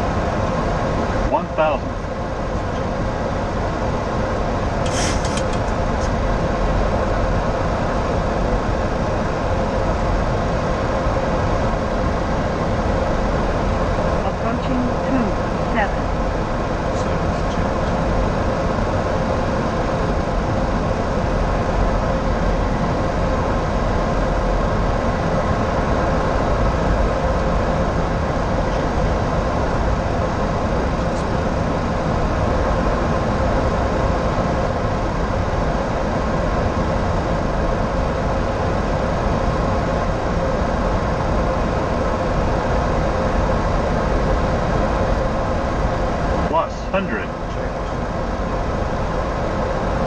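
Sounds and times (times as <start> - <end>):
faint steady hum: 0.0 - 50.0
rush of air in cockpit: 0.0 - 50.0.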